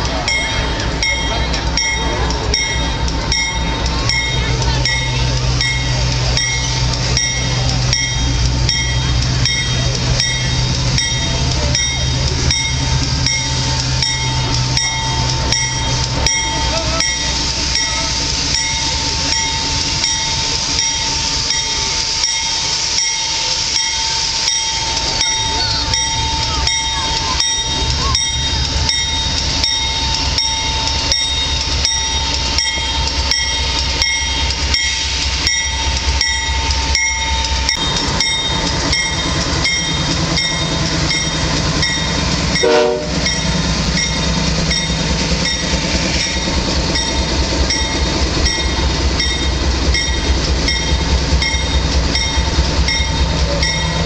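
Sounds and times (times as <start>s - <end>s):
diesel locomotive engine drone: 0.0s - 54.0s
high pulsing ringing: 0.1s - 54.0s.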